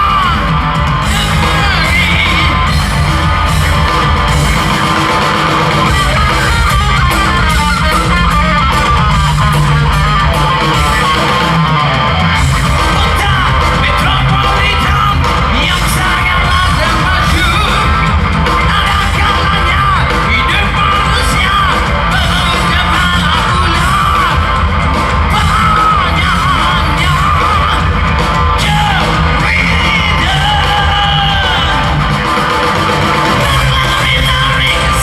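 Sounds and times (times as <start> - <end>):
live rock band playing: 0.0 - 35.0
person singing and shouting: 0.0 - 35.0.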